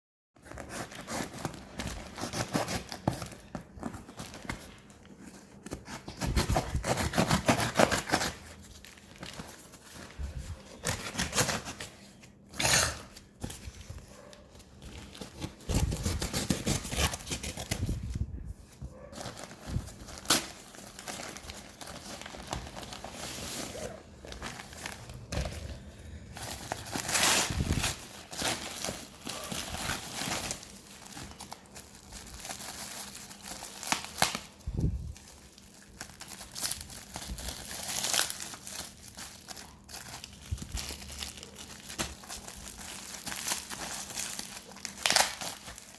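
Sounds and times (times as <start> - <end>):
packaging being cut and torn: 0.4 - 4.8, 5.6 - 9.5, 10.7 - 11.9, 14.8 - 18.2, 19.1 - 25.7, 26.5 - 45.9.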